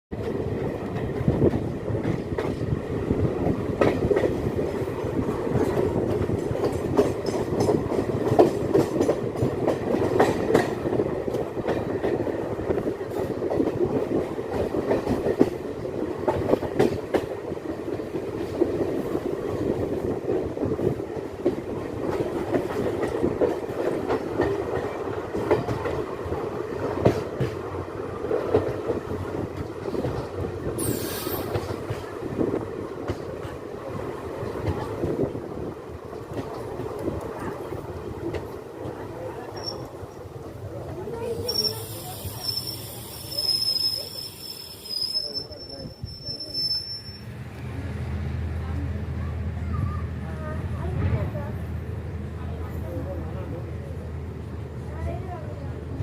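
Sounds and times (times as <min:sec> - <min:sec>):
train coach rumbling: 0:00.1 - 0:56.0.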